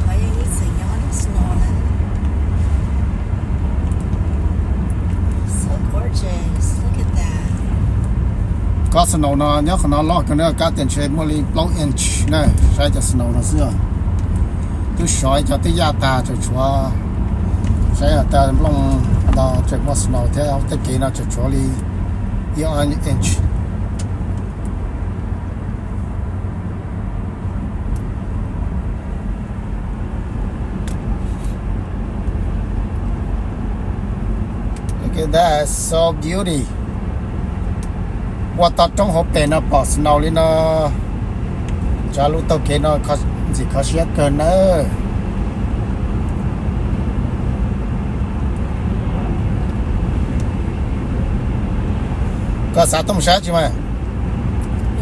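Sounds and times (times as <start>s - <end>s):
road and engine rumble in car: 0.0s - 55.0s.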